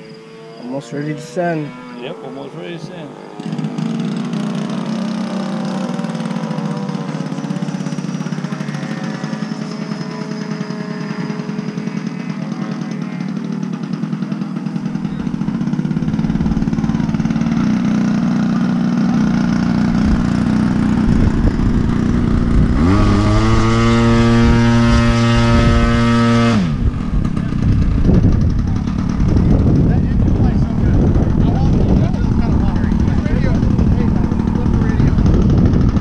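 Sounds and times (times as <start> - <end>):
model airplane engine running: 0.0 - 36.0.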